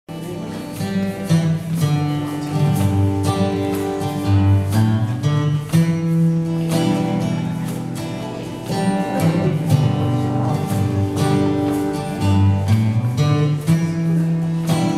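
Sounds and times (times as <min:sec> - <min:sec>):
held keyboard chords: 0:00.1 - 0:14.9
strummed acoustic guitar: 0:00.1 - 0:14.9.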